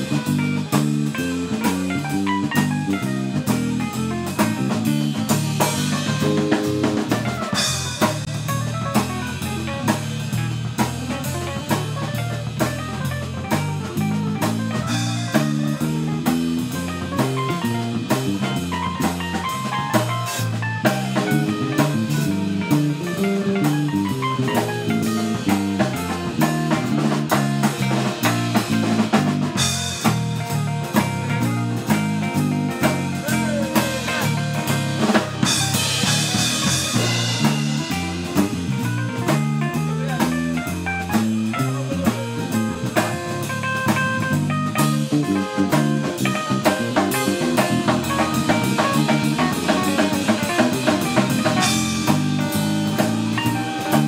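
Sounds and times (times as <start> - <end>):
drum kit beat: 0.0 - 54.0
electric keyboard: 0.0 - 54.0
walking bass line: 0.0 - 54.0.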